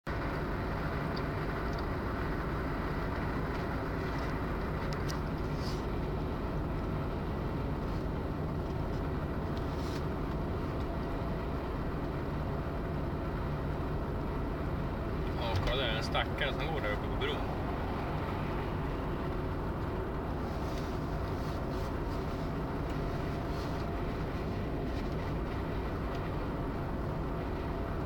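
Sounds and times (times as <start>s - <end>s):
moving vehicle rumble: 0.1s - 28.0s.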